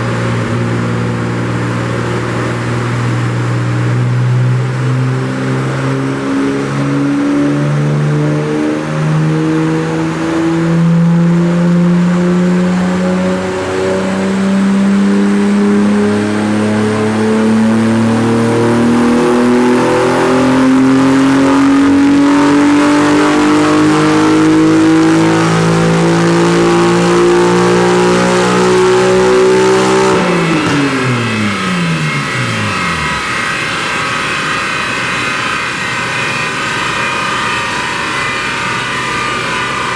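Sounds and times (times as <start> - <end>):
car engine revving on dyno: 0.0 - 39.9.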